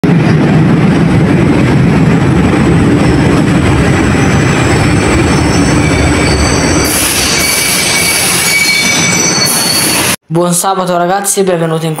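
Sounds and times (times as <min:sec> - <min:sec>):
metro train rumbling: 0:00.0 - 0:10.2.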